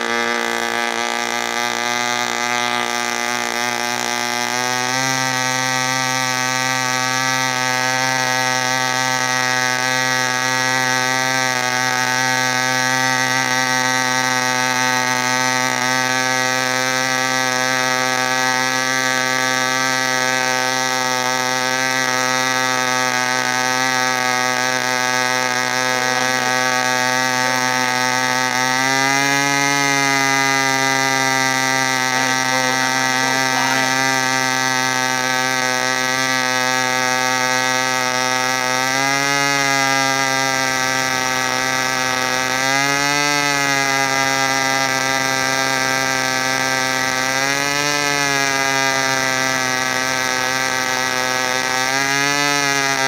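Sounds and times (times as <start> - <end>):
model airplane engine running: 0.0 - 53.0.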